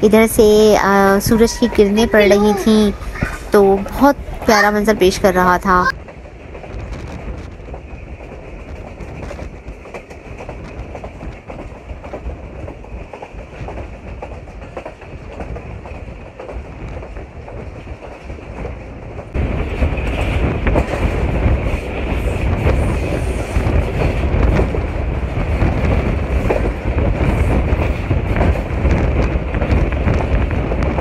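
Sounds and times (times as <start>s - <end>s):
train rumble: 0.0s - 31.0s.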